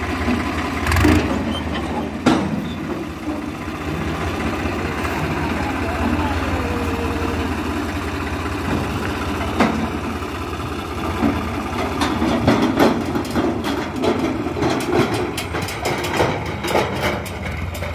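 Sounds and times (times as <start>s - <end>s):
diesel tractor engine running: 0.0s - 17.9s
rattling knocks of trailer: 0.1s - 17.9s.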